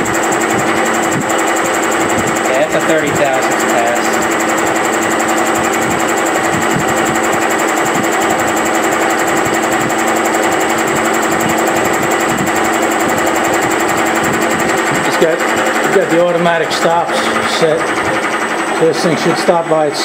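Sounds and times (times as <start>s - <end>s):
milling machine cutting steel: 0.0s - 20.0s.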